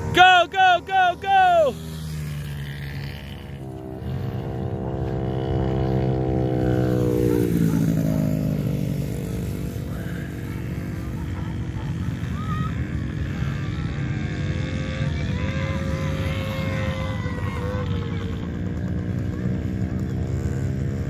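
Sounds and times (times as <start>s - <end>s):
dirt bike engines running: 0.0s - 21.0s.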